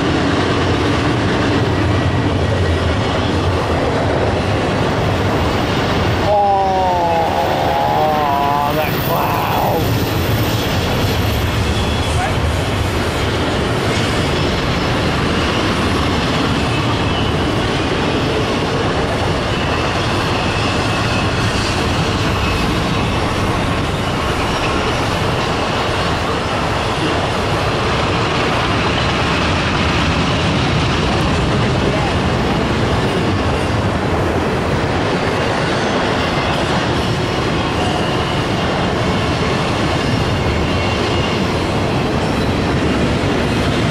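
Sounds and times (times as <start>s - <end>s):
freight train wheels on rail: 0.0s - 43.9s.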